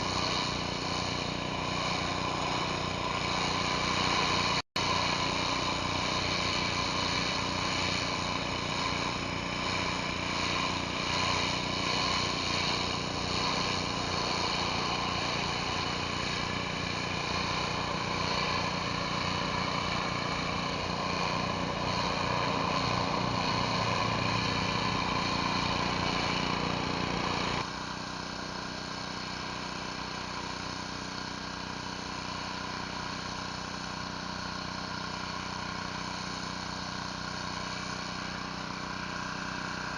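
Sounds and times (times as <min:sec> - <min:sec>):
pressure washer motor hum: 0:00.0 - 0:39.9
water spray hissing on concrete: 0:00.0 - 0:39.9.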